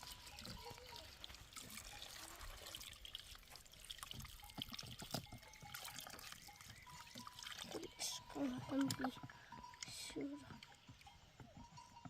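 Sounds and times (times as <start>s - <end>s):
faint trickling water: 0.0s - 11.7s.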